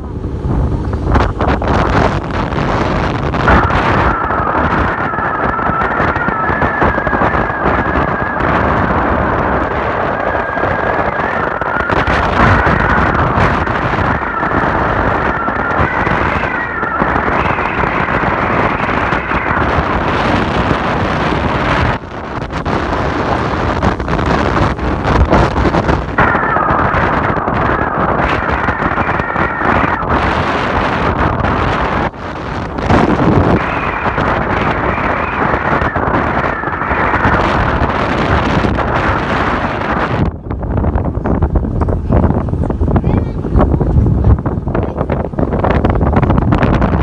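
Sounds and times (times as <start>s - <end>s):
strong wind buffeting microphone: 0.0s - 47.0s.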